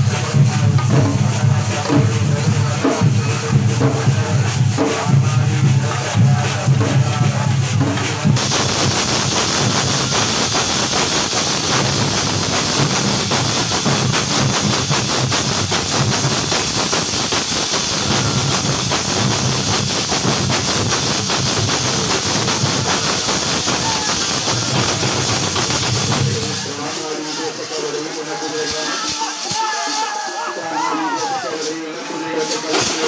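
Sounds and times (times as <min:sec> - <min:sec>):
hand cymbals clashing: 0:00.0 - 0:33.0.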